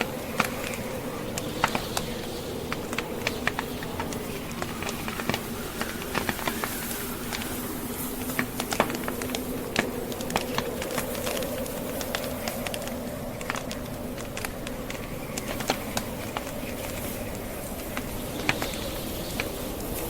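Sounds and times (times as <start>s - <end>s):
logs crackling in fireplace: 0.0s - 20.0s
snowstorm wind howling: 0.0s - 20.0s.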